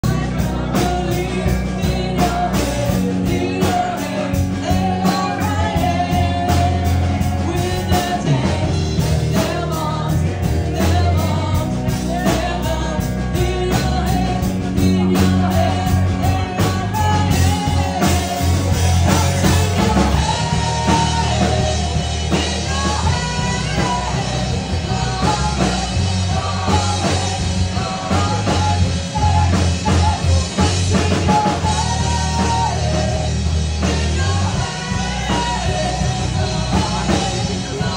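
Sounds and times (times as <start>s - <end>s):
electric guitar: 0.0s - 37.9s
steady drum beat: 0.0s - 37.9s
woman singing: 0.0s - 37.9s.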